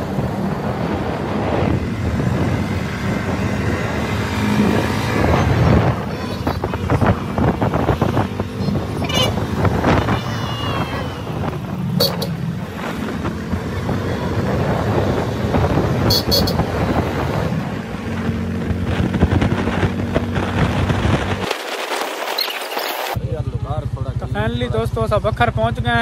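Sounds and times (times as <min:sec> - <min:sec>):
wind buffeting microphone: 0:00.0 - 0:22.3
vehicle road noise: 0:00.0 - 0:26.0.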